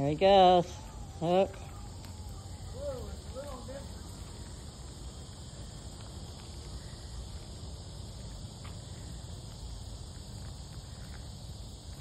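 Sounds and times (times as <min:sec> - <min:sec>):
insects shrilling: 0:00.0 - 0:12.0.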